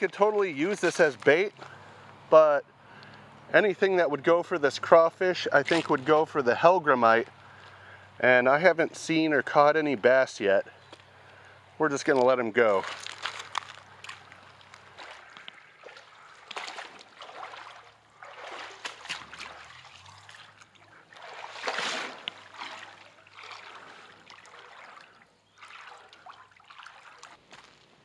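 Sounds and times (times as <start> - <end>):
creek water trickling and splashing: 0.0 - 28.0.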